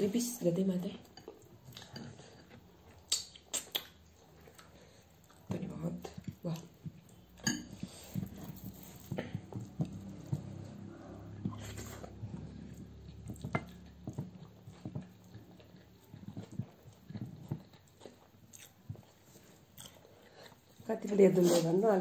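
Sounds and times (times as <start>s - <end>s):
fingers mixing food on plates: 0.0s - 22.0s
chewing and mouth sounds: 0.8s - 21.6s.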